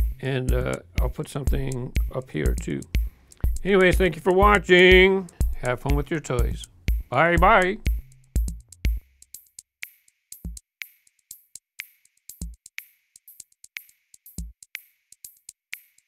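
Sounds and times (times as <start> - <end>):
electronic music with drum-machine beat: 0.0 - 16.0.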